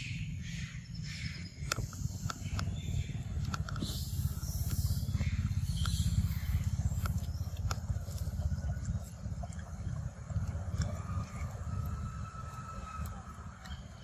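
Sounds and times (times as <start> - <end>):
low rumble: 0.0 - 14.0
monkeys chewing wet smacks: 1.7 - 14.0.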